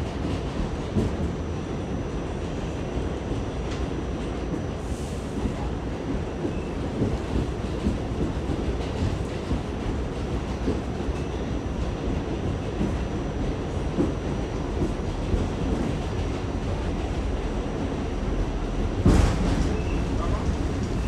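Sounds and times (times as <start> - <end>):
subway wheels on rails: 0.0 - 21.0.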